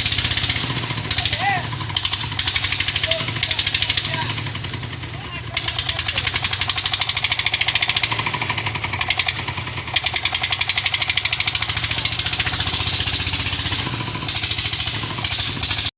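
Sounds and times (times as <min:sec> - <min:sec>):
diesel engine knocking: 0:00.0 - 0:15.9.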